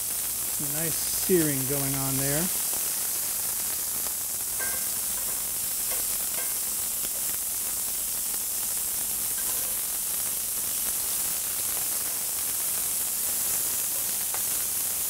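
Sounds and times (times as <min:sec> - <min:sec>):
scallops sizzling in oil: 0:00.0 - 0:15.0.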